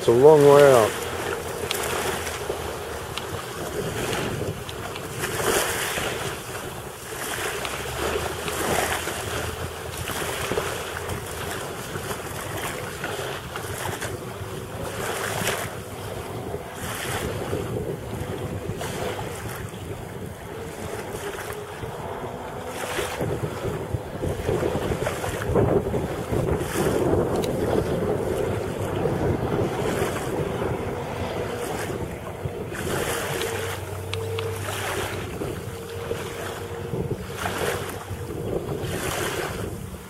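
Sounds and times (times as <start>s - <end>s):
distant jet ski engine drone: 0.0s - 40.0s
wind buffeting microphone: 0.0s - 40.0s.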